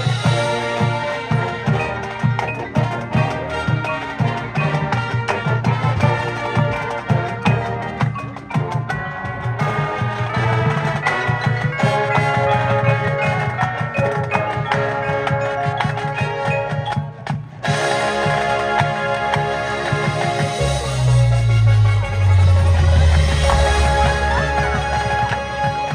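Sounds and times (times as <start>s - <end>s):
drums in steady rhythm: 0.0s - 25.9s
mallet percussion: 0.0s - 25.9s
marching band playing: 0.0s - 25.9s.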